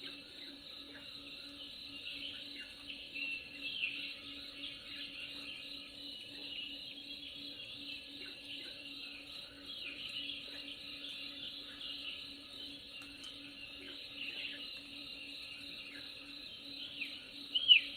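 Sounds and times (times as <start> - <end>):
birds chirping: 0.0 - 17.9
insect trill: 0.0 - 17.9.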